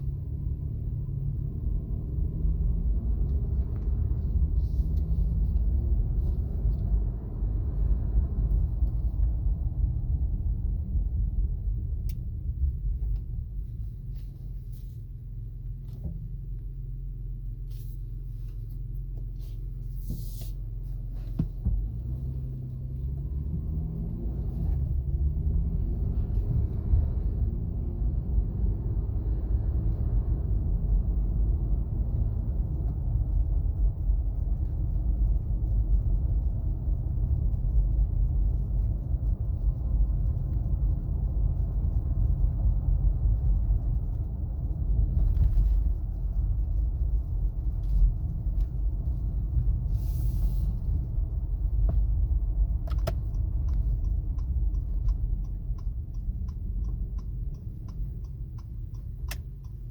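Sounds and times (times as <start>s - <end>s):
car road and drivetrain noise: 0.0s - 59.9s
whine from car wheels: 0.0s - 59.9s.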